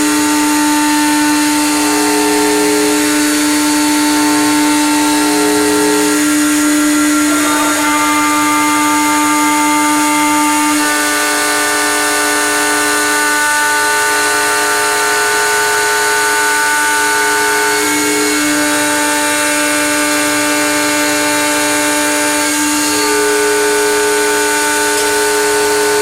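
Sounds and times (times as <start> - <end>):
mill spindle cutting metal: 0.0 - 26.0.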